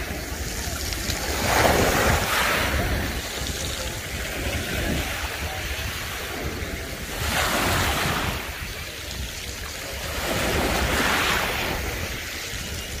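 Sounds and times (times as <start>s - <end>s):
sea waves washing ashore: 0.0s - 13.0s
wind rumbling on microphone: 0.0s - 13.0s.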